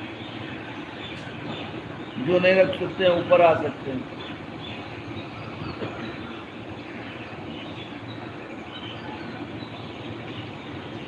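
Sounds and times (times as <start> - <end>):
outdoor background hum: 0.0 - 11.0.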